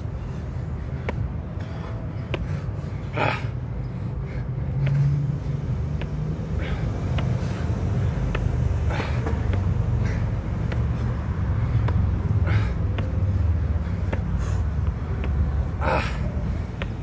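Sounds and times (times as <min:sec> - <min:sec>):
low rumble of street traffic: 0:00.0 - 0:17.0.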